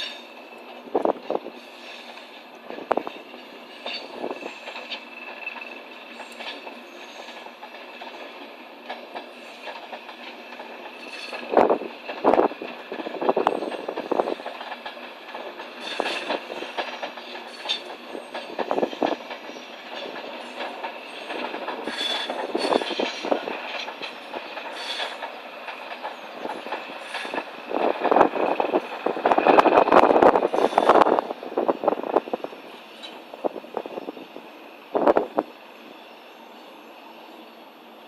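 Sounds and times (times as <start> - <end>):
train wheels clattering on rails: 0.0 - 37.4
high squealing of rails: 0.0 - 38.0.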